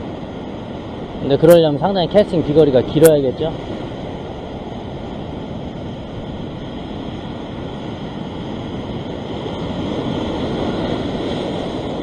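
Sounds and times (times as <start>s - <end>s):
ocean surf breaking over rocks: 0.0s - 12.0s.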